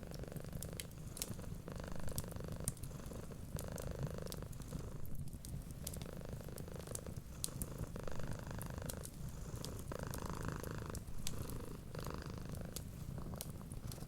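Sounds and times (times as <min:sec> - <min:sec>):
cat purring: 0:00.0 - 0:14.0
wood fire crackling: 0:00.1 - 0:14.0.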